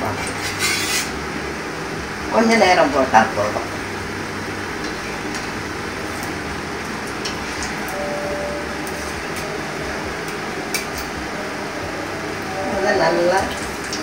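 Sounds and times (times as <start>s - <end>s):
food sizzling in hot oil: 0.0s - 11.4s, 12.3s - 14.0s.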